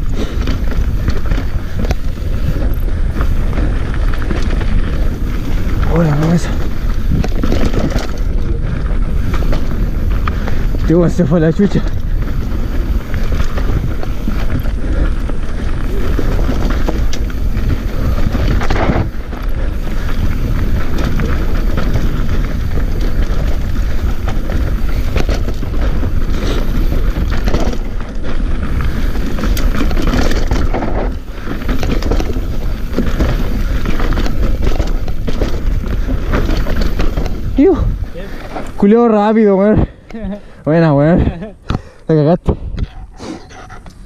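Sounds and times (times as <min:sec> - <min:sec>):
tyres rumbling on dirt: 0:00.0 - 0:40.0
wind buffeting microphone: 0:00.0 - 0:40.0
bike rattling over bumps: 0:00.0 - 0:44.0.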